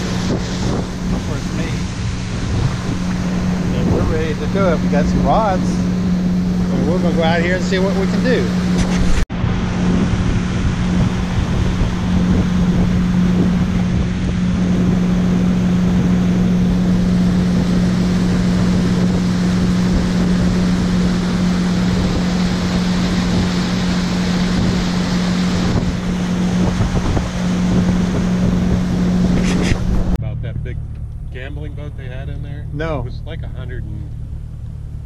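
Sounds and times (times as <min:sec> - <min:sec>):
water rushing past hull: 0:00.0 - 0:30.2
wind buffeting microphone: 0:00.0 - 0:30.2
boat motor droning: 0:00.0 - 0:35.0.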